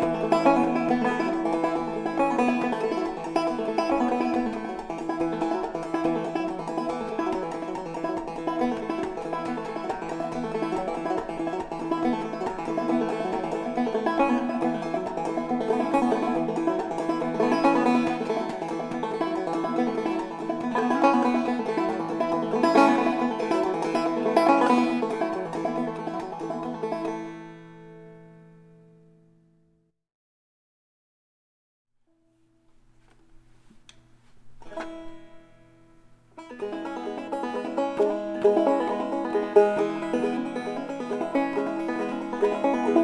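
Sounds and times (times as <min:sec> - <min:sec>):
old-time banjo music: 0:00.0 - 0:28.9, 0:34.4 - 0:43.0.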